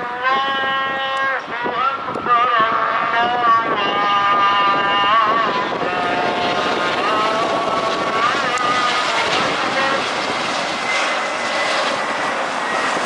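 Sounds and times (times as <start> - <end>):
jet engines roaring and whining: 0.0 - 13.0.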